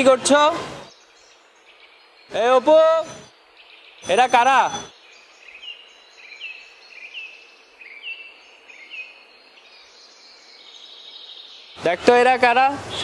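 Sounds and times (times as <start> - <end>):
outdoor background hiss: 0.0 - 13.0
small bird chirping: 0.9 - 11.8.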